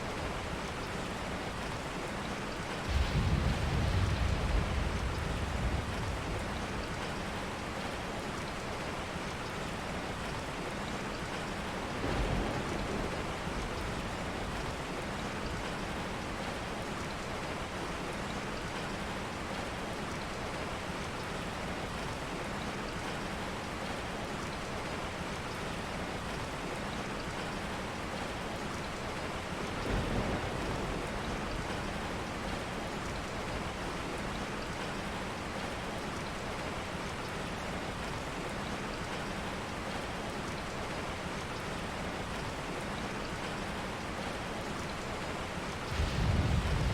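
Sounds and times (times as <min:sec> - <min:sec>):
steady rain hiss: 0:00.0 - 0:46.9.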